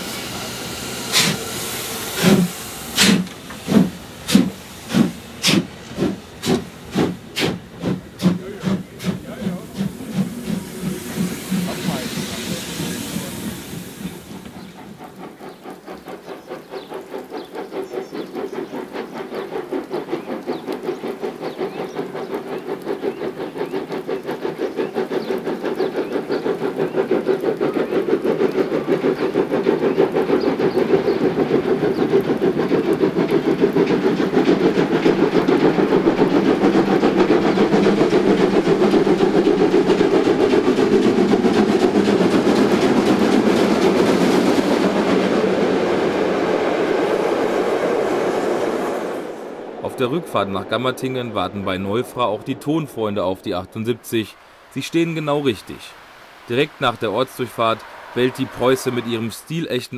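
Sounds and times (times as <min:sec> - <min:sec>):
steam locomotive exhaust chuffs: 0:00.0 - 0:59.9.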